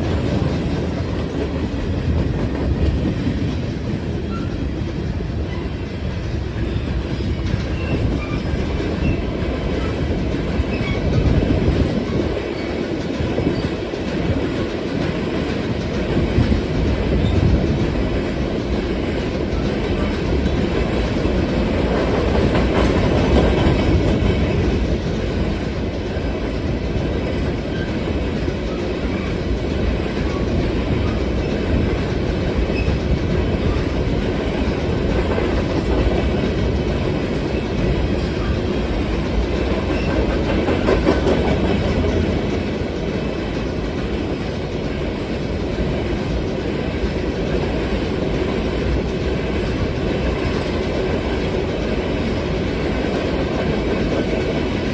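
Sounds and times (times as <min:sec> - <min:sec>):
clickety-clack over rail joints: 0:00.0 - 0:54.9
train wheels rumbling on rail: 0:00.0 - 0:54.9.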